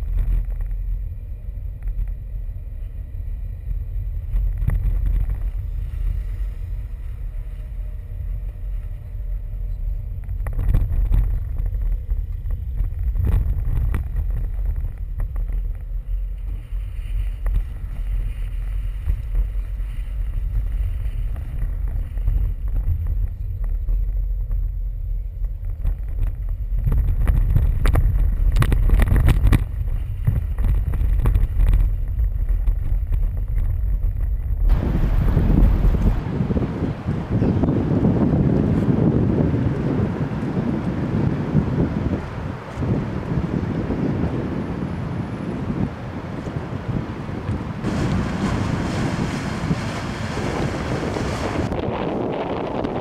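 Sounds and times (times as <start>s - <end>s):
car rumbling low: 0.0s - 53.0s
wind buffeting microphone: 0.0s - 53.0s.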